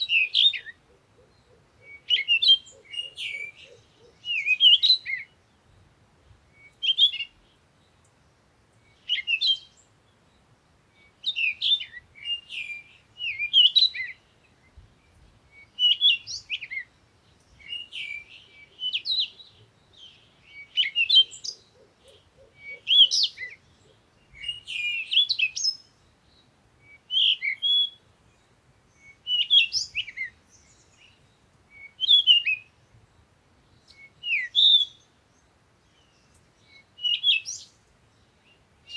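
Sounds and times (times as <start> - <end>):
songbird singing chirpy phrases: 0.0 - 38.9.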